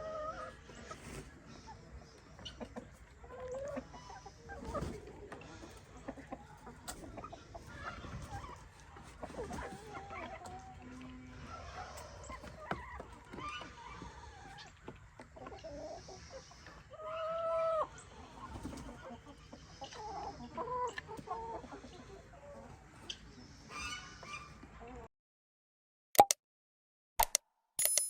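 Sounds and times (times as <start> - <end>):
chickens clucking: 0.0 - 25.1.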